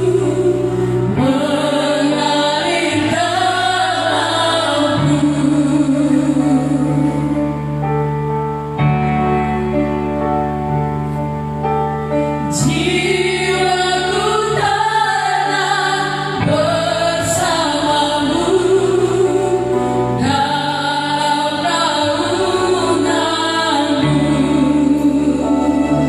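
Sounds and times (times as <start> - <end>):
women singing praise song: 0.0 - 7.4, 12.5 - 26.0
electric keyboard chords: 0.0 - 26.0.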